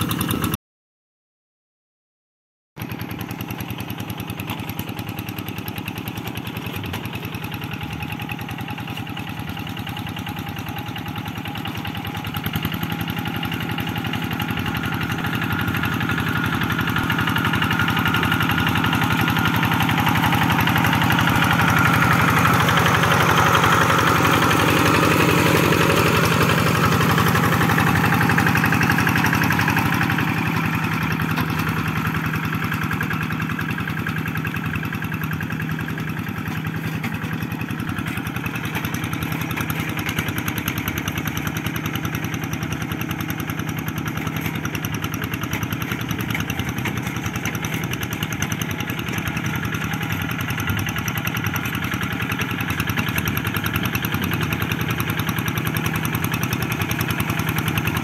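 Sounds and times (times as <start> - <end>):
diesel tractor engine chugging: 2.8 - 58.0.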